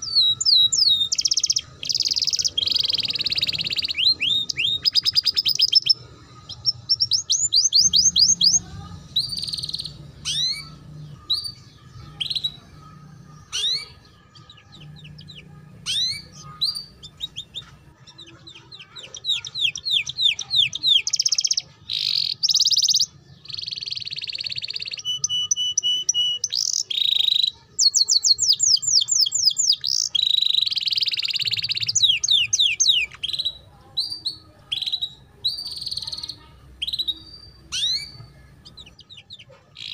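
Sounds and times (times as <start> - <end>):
canary singing twittering song: 0.0 - 39.9.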